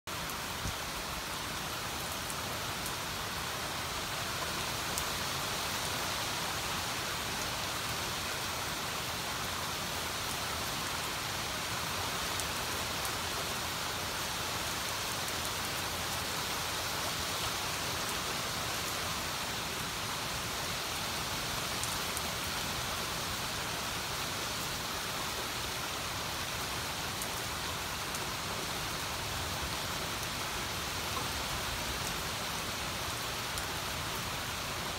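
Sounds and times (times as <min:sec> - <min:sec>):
rain on leaves and paving: 0:00.1 - 0:34.9.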